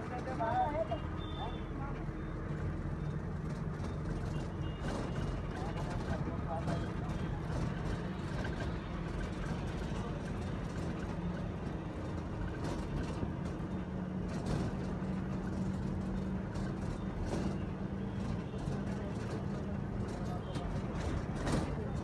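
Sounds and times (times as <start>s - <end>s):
road noise: 0.0s - 22.0s
vehicle engine hum: 0.0s - 22.0s.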